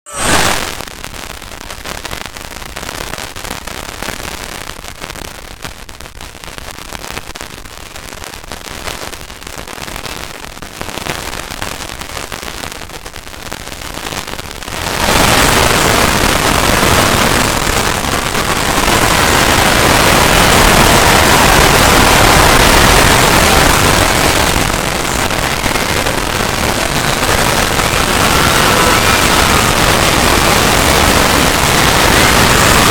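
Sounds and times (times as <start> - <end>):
distorted crackling static: 0.1 - 32.9
loud dense hiss: 0.1 - 32.9.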